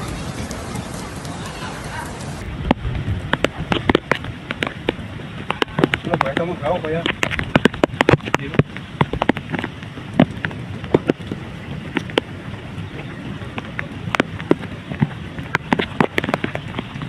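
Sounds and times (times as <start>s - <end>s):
gusting wind: 0.0s - 17.0s
heavy rain: 0.0s - 17.0s
sharp taps and cracks: 2.2s - 12.3s, 13.0s - 17.0s.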